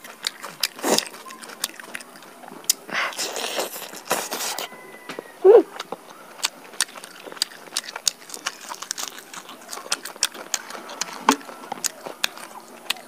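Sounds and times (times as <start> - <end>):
chewing with wet clicks and smacks: 0.0 - 13.0.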